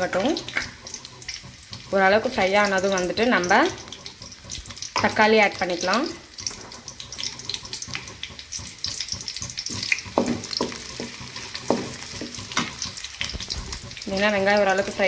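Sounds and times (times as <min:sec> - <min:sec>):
onions sizzling in oil: 0:00.0 - 0:15.0
spatula scraping pan: 0:00.0 - 0:15.0.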